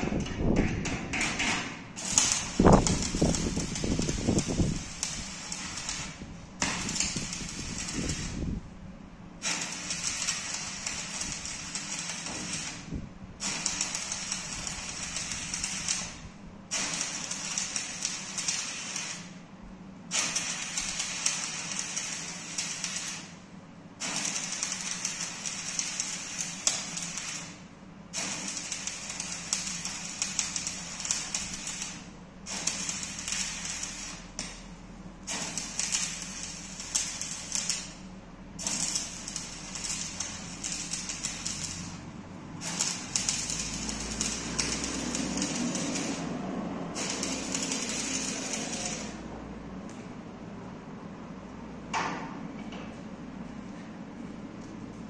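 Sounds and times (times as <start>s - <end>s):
steady low hum: 0.0s - 55.0s
welding arc crackling: 2.0s - 8.6s, 9.4s - 19.4s, 20.1s - 23.4s, 24.0s - 49.3s.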